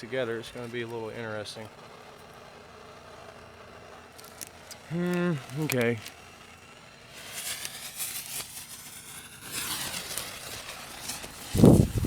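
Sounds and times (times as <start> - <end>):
fireworks fuses hissing and crackling: 0.0 - 12.0.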